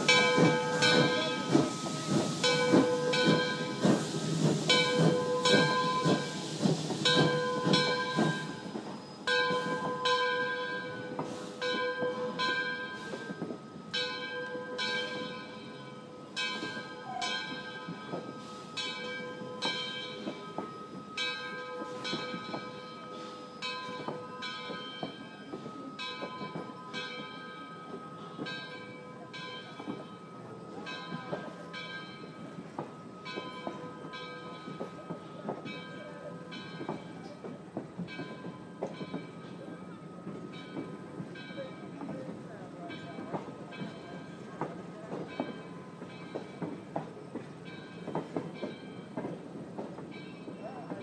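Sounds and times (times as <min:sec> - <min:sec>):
train coaches rolling on rails: 0:00.0 - 0:51.0.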